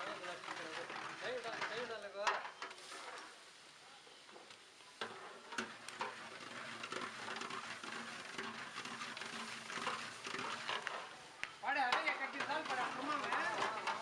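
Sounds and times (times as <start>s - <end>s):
rice pattering into pot: 0.0s - 14.0s
steady hiss: 0.0s - 14.0s.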